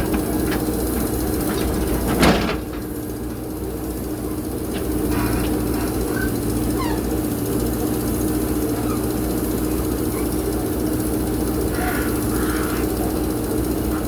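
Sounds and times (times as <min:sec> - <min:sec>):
diesel engine running steadily: 0:00.0 - 0:14.0.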